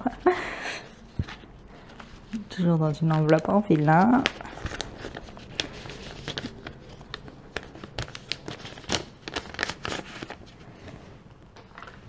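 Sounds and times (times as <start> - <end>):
envelope crinkling and rustling: 1.0 - 12.0.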